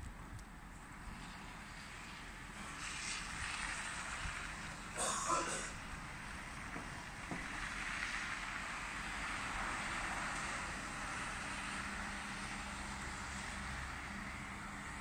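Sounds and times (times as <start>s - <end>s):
bus engine hum: 0.0s - 15.0s
tyres rushing on snowy road: 0.0s - 15.0s.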